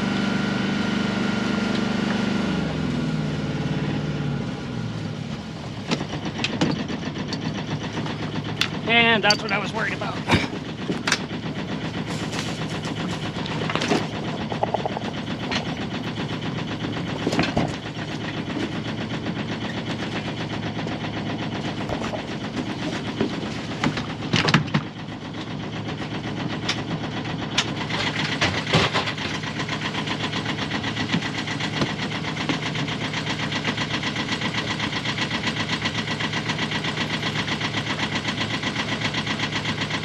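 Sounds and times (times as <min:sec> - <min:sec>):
boat engine idling: 0:00.0 - 0:40.0.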